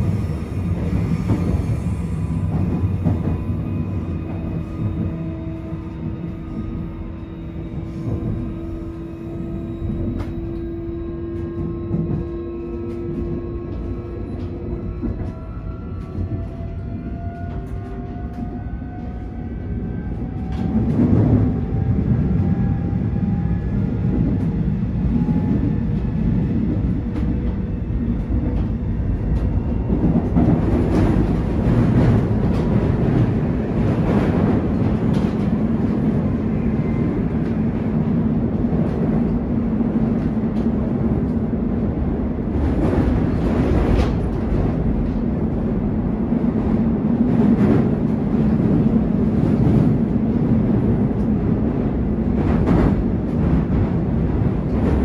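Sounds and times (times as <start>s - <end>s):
rail joints clickety-clack: 0.0s - 55.0s
train wheels rumbling on rail: 0.0s - 55.0s.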